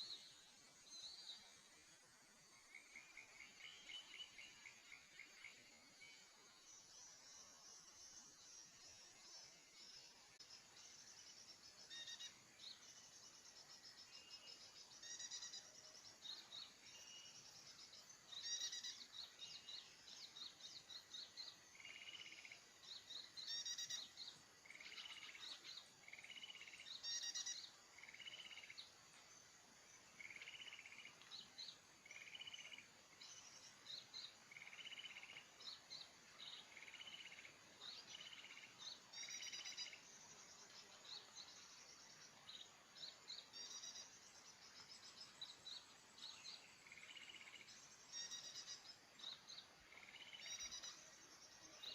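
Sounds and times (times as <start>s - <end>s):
songbirds chirping and trilling: 0.0s - 51.9s.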